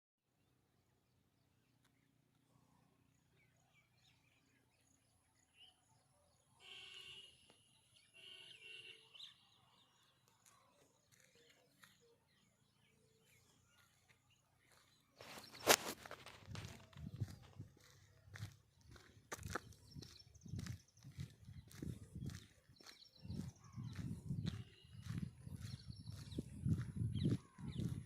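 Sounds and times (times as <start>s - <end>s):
faint outdoor ambience: 0.3s - 28.0s.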